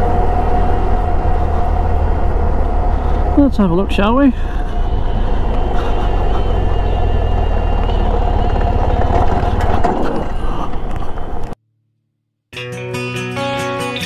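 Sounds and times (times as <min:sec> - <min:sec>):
motorcycle engine running: 0:00.0 - 0:11.6
road and wind noise: 0:00.0 - 0:11.6.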